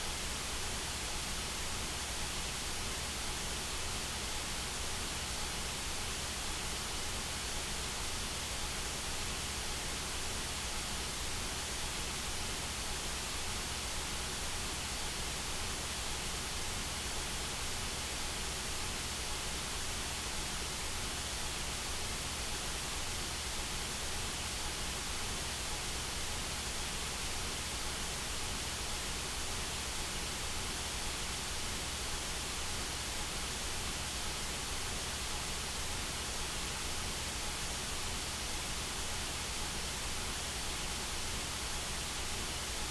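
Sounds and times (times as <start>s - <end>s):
white noise hiss: 0.0s - 42.9s.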